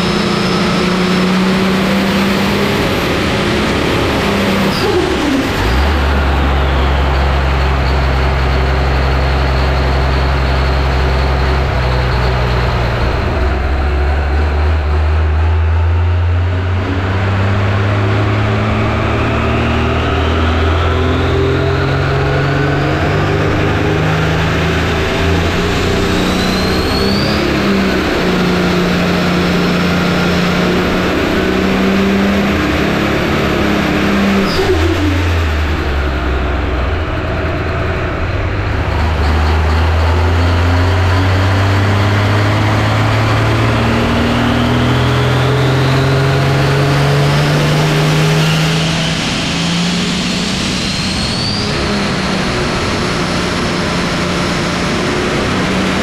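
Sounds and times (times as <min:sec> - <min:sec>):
high rising whine: 0:00.0 - 0:56.0.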